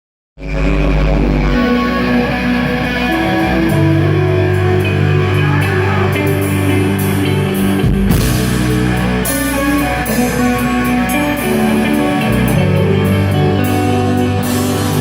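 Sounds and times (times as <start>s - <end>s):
distorted electric guitars: 0.7s - 15.0s.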